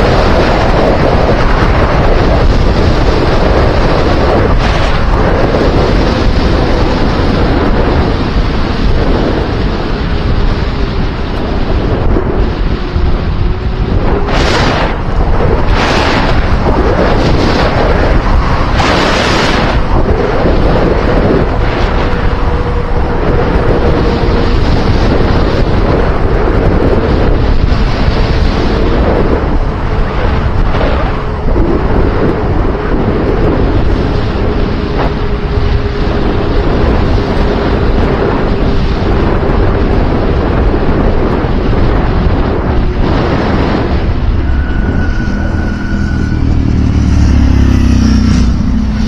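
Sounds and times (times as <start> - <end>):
wind buffeting the microphone: 0.0 - 49.0.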